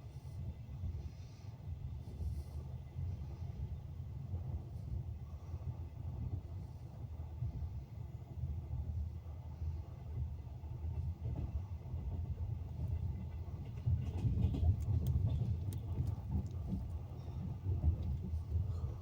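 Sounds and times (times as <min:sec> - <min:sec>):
train carriage rumbling on rails: 0:00.0 - 0:19.0.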